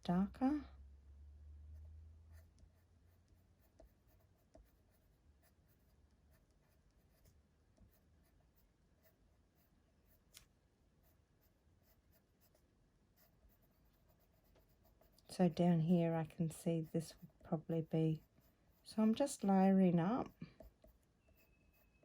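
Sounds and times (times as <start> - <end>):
pencil scratching on card: 2.3 - 10.2, 11.0 - 12.6, 13.2 - 22.0.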